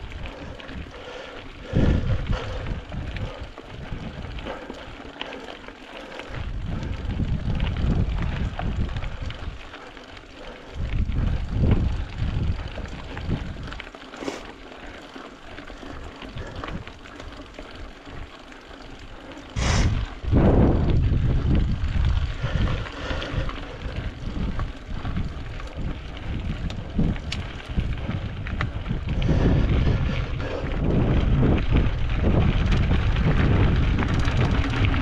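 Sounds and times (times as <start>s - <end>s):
mountain bike rattling: 0.0s - 35.0s
wind buffeting microphone: 0.0s - 35.0s.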